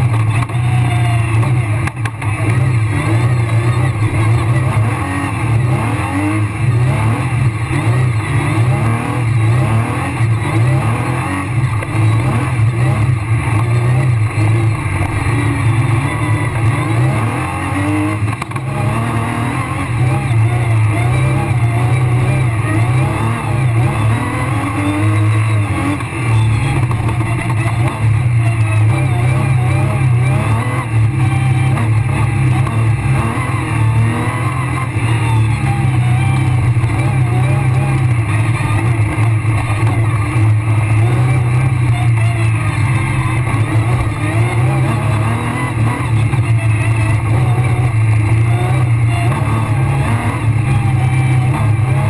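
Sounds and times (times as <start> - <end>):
rally car engine revving: 0.0 - 52.0.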